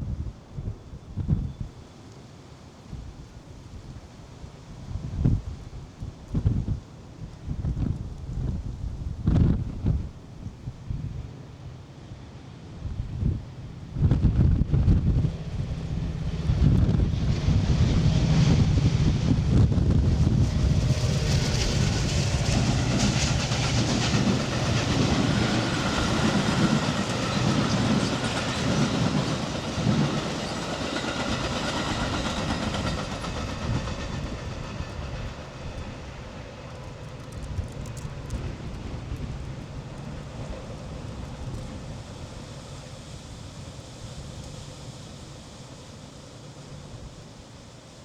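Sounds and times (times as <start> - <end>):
train rolling on steel rails: 4.0 - 48.0.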